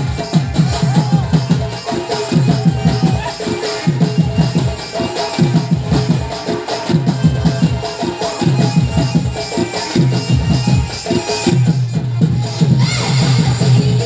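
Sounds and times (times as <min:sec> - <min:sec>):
shaker-like percussion: 0:00.0 - 0:14.0.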